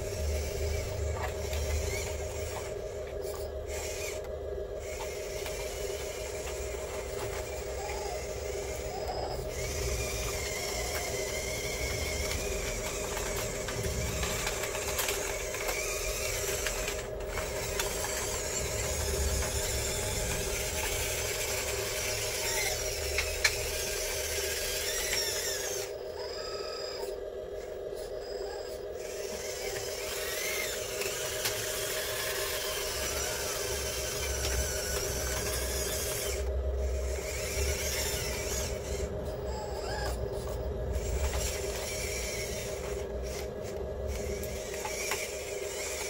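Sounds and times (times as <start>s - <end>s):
small electric motors whirring: 0.0s - 46.0s
steady hum: 0.0s - 46.0s.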